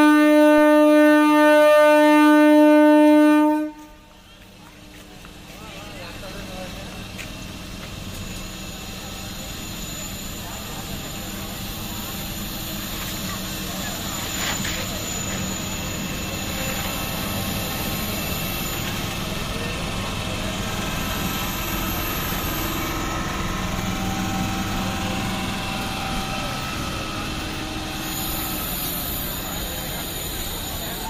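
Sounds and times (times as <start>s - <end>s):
train rolling over rails: 0.0s - 31.0s.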